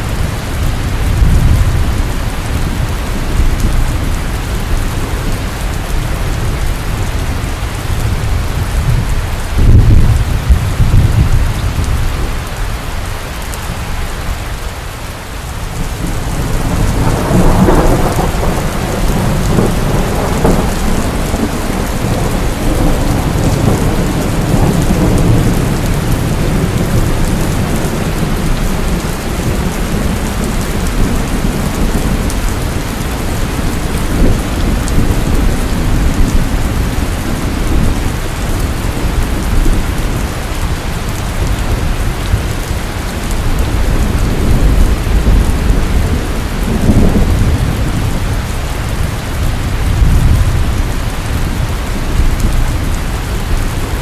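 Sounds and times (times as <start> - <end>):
thunder clap and rumble: 0.0 - 14.9, 15.6 - 54.0
heavy rain: 0.0 - 54.0.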